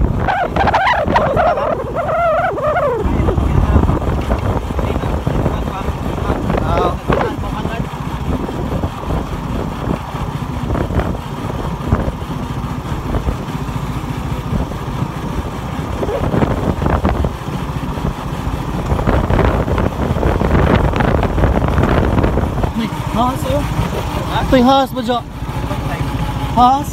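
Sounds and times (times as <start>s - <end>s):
motorcycle engine running: 0.0s - 26.9s
road noise: 0.0s - 26.9s.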